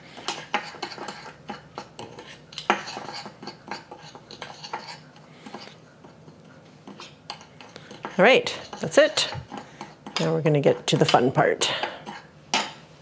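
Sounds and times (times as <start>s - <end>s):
spoon clinking and scraping bowl: 0.2s - 12.8s.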